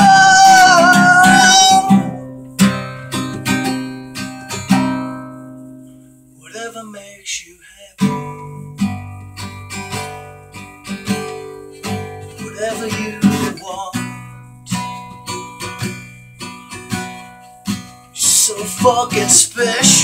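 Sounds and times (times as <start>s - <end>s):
acoustic guitar strumming: 0.0s - 7.4s, 8.0s - 20.0s.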